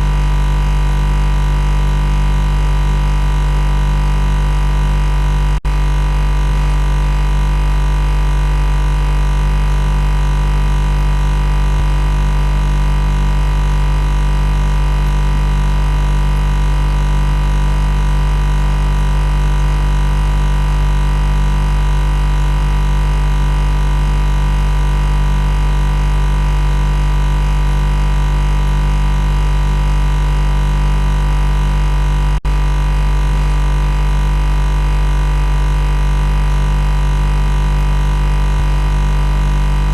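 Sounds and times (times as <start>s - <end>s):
electrical machine buzz: 0.0s - 39.9s.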